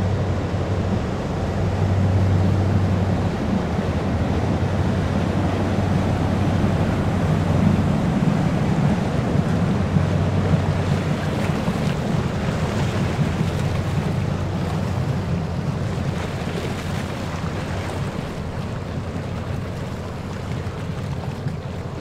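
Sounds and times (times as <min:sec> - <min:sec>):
light breeze: 0:00.0 - 0:22.0
ship engine rumble: 0:00.0 - 0:22.0
water lapping against breakwater: 0:01.5 - 0:22.0.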